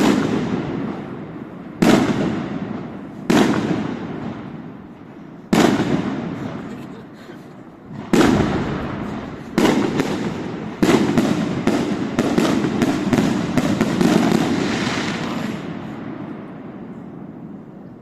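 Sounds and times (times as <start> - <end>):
fireworks bangs: 0.0 - 18.0
fireworks bursts and crackling: 0.0 - 18.0.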